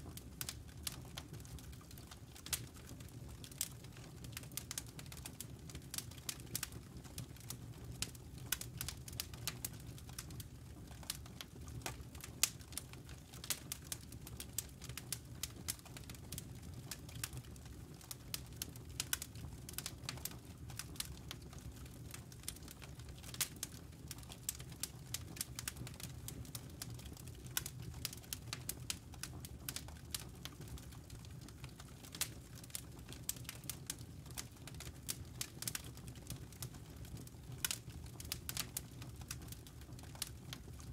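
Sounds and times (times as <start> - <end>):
fire crackling and popping: 0.0 - 40.9
low steady fire roar: 0.0 - 40.9.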